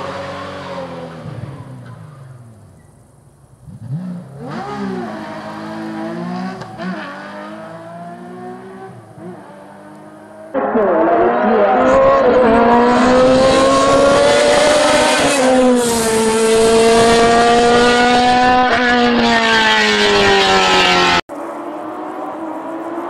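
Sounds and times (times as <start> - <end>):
racing car engine at high revs: 0.0 - 2.5, 3.6 - 23.0.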